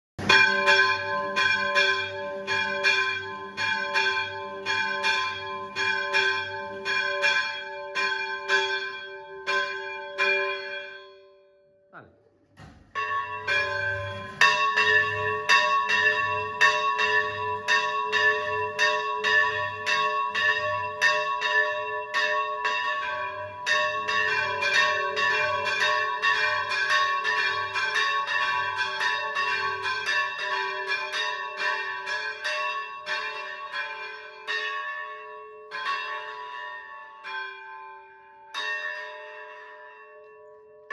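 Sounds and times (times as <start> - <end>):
church bells ringing: 0.2 - 11.7, 12.6 - 40.9.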